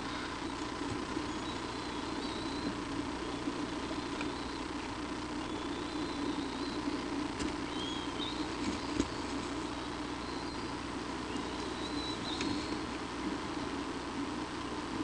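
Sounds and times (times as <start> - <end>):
faint high chirps: 0.0 - 13.0
microphone hum and hiss: 0.0 - 15.0.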